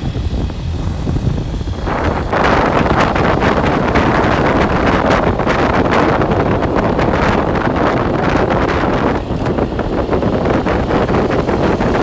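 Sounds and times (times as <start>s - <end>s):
motorcycle engine rumble: 0.0s - 12.0s
wind rushing over microphone: 0.0s - 12.0s.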